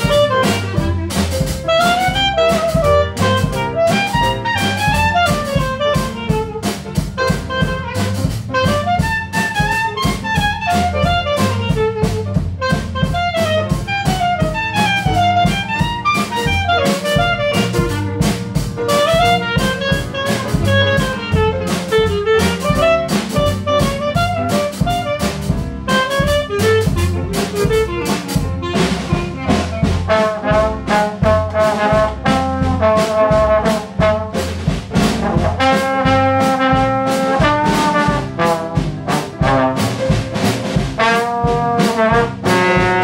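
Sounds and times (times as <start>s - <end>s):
clarinet solo: 0.0s - 34.6s, 35.3s - 40.1s, 41.0s - 43.0s
drums swing beat: 0.0s - 43.0s
piano: 0.0s - 43.0s
upright bass: 0.0s - 43.0s.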